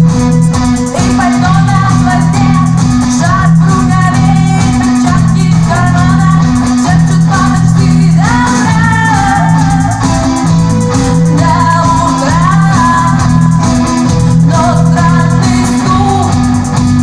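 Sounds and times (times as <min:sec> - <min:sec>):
live rock band music: 0:00.0 - 0:17.0.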